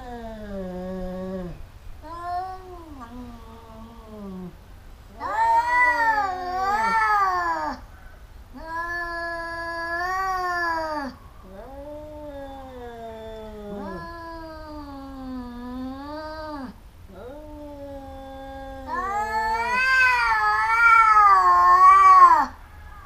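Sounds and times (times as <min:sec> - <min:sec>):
cats yowling: 0:00.0 - 0:07.9, 0:08.5 - 0:23.0.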